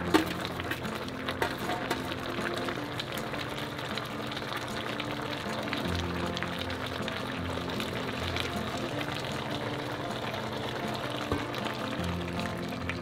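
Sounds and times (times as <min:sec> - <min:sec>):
background music with held notes: 0:00.0 - 0:13.0.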